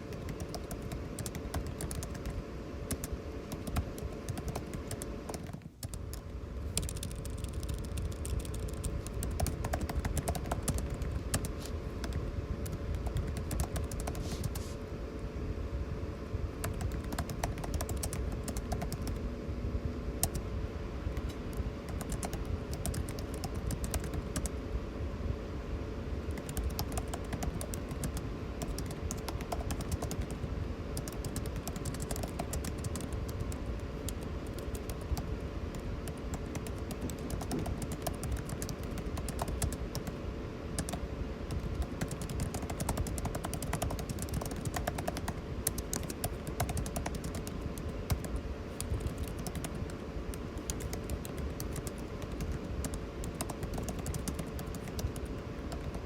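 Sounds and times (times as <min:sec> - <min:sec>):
typing on computer keyboard: 0:00.0 - 0:14.6, 0:16.6 - 0:19.2, 0:20.2 - 0:20.4, 0:21.2 - 0:24.5, 0:26.3 - 0:40.2, 0:40.8 - 0:56.0
air conditioning hum: 0:00.0 - 0:56.0.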